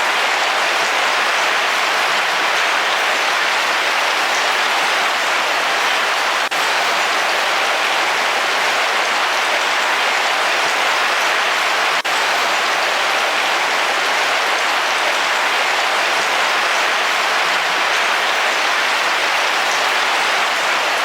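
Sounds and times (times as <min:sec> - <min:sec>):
heavy rain on a car roof: 0:00.0 - 0:21.0.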